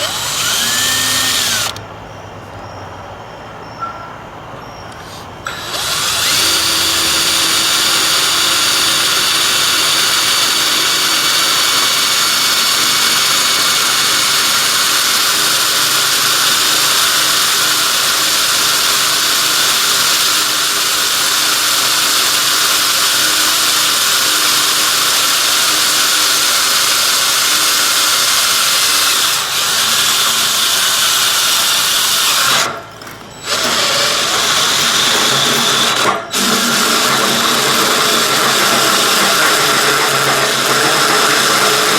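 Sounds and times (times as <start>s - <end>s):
drill hole saw cutting metal: 0.0s - 1.8s, 5.0s - 41.9s.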